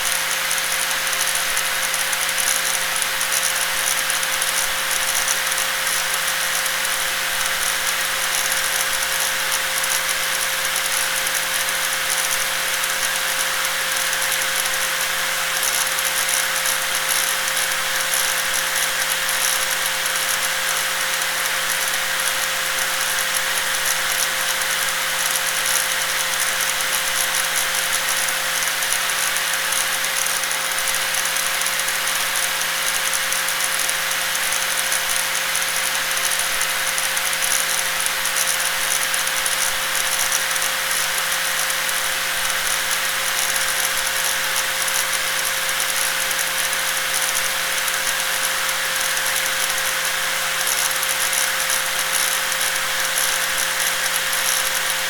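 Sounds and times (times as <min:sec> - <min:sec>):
electric angle grinder whirring: 0:00.0 - 0:55.0.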